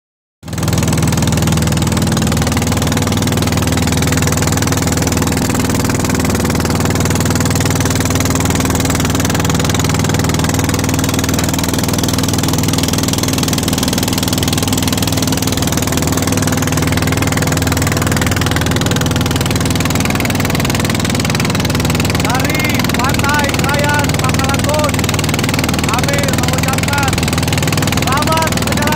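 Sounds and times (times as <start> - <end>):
engine droning: 0.5 - 28.9.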